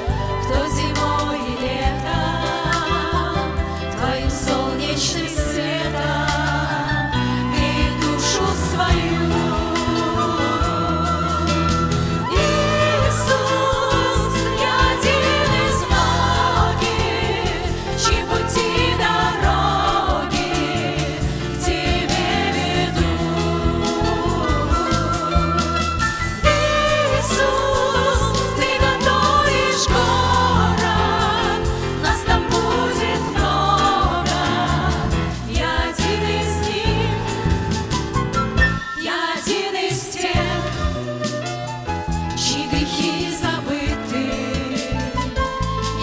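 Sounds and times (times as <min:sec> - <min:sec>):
band with bass and beat: 0:00.0 - 0:46.0
vocal group singing worship song: 0:00.0 - 0:46.0.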